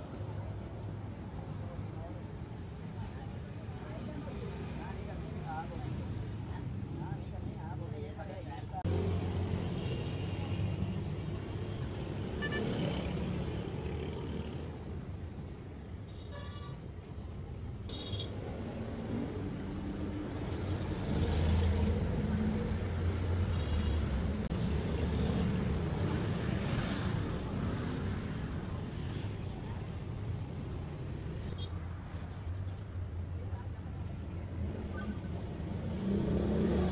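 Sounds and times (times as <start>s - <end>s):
vehicle engines rumbling: 0.0s - 16.0s, 16.8s - 36.9s.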